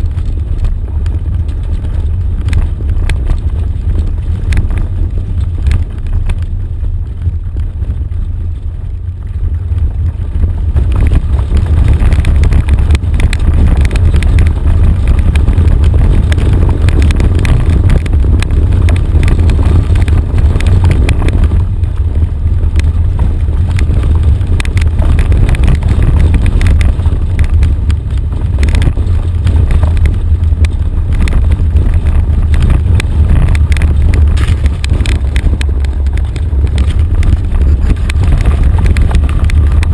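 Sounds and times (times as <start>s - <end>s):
off-road vehicle engine rumble: 0.0s - 39.9s
rattles and knocks over bumps: 0.0s - 39.9s.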